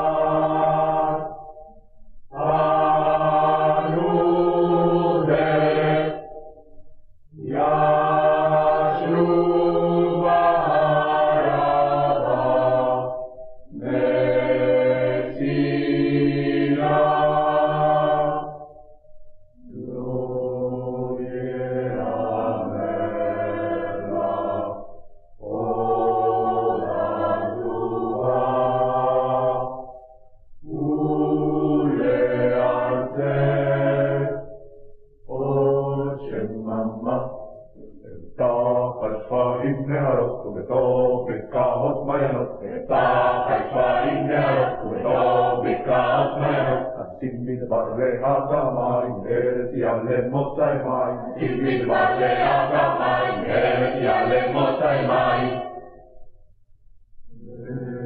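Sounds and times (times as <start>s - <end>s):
mixed choir singing: 0.0s - 1.6s, 2.3s - 6.5s, 7.4s - 18.7s, 19.6s - 34.6s, 35.3s - 56.1s, 57.3s - 58.0s.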